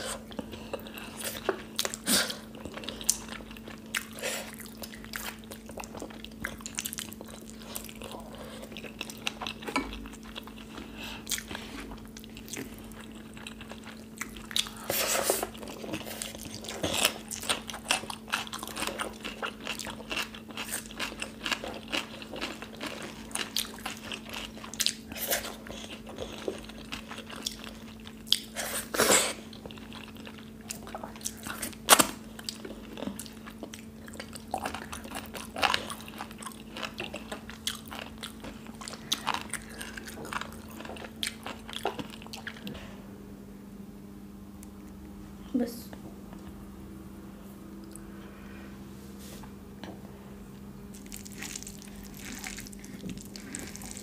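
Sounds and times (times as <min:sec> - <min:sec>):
people chewing with wet smacks: 0:00.0 - 0:42.9, 0:50.9 - 0:54.0
faint steady hum: 0:00.0 - 0:54.0.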